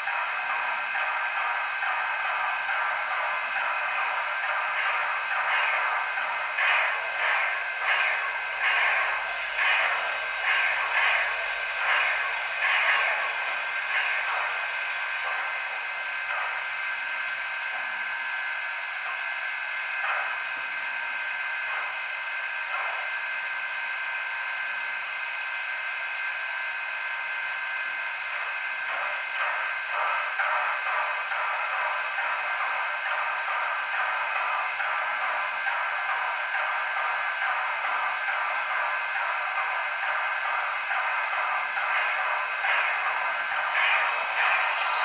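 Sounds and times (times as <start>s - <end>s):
model steam locomotive puffing: 0.0s - 45.0s
steady steam hiss: 0.0s - 45.0s.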